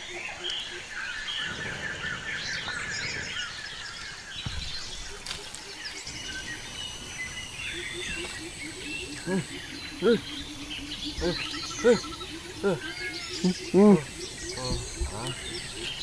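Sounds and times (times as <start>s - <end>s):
birds chirping and calling: 0.0s - 16.0s
steady background hiss: 0.0s - 16.0s.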